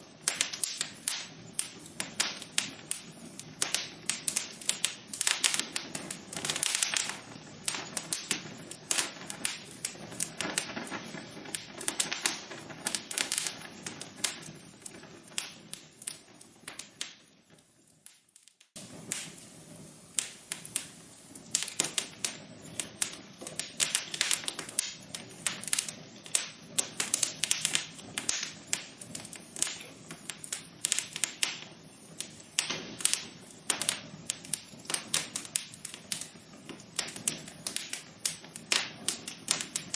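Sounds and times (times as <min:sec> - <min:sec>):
soft fire hiss: 0:00.0 - 0:39.9
wood fire crackling and popping: 0:00.0 - 0:39.9.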